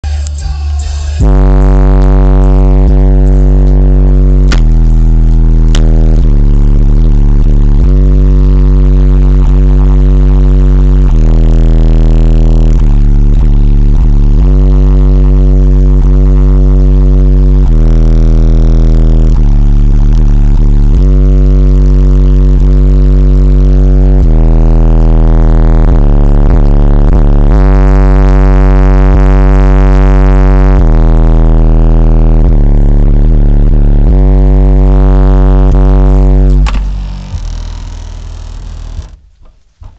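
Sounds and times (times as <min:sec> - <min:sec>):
loud deep bass notes: 0:00.0 - 0:39.9.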